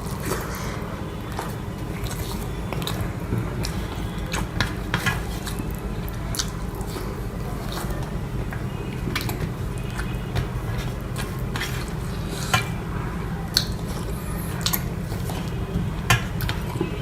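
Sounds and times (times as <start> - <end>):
wet chewing and mixing food: 0.0 - 17.0.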